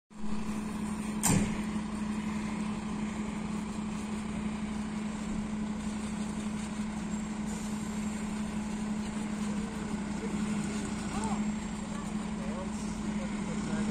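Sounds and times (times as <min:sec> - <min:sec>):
diesel engine idling: 0:00.2 - 0:13.9.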